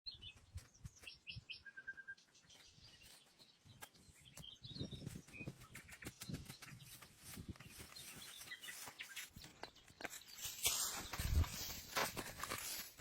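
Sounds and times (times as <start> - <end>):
songbirds chirping: 0.1 - 12.8.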